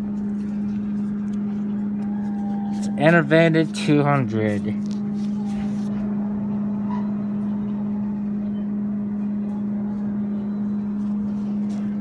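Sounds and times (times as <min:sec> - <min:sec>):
vending machines humming: 0:00.0 - 0:12.0.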